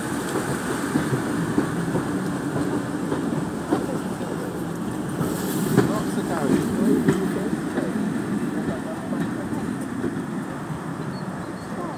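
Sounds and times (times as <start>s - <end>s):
rail click: 0.0s - 11.9s
train wheels rumbling on rails: 0.0s - 11.9s.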